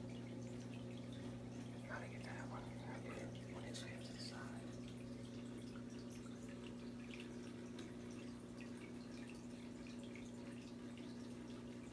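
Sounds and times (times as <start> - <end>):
filter low hum: 0.0 - 11.9
water trickling and dripping: 0.0 - 11.9.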